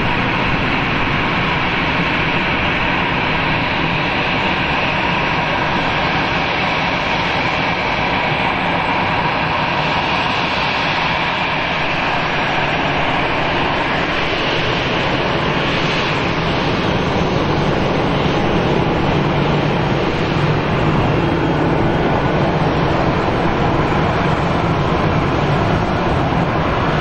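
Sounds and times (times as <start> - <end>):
jet engines taxiing: 0.0 - 27.0.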